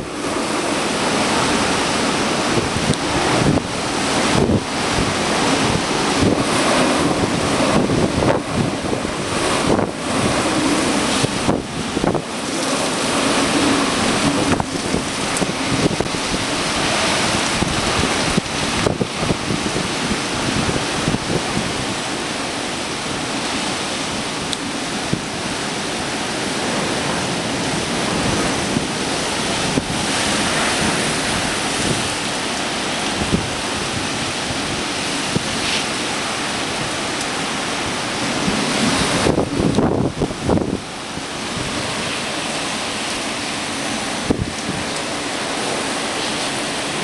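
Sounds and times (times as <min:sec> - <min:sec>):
driving rain: 0:00.0 - 0:47.0
strong wind gusts: 0:00.0 - 0:47.0.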